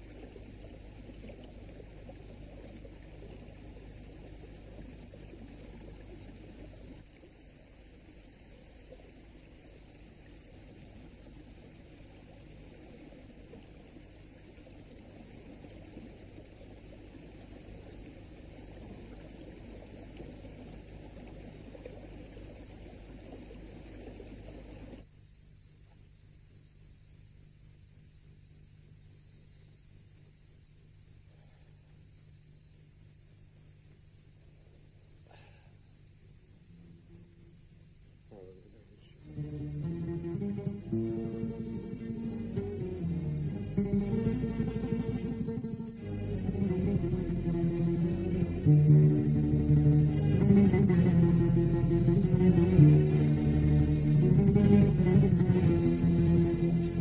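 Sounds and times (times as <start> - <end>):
crickets chirping: 0.0 - 57.0
low steady hum: 0.0 - 57.0.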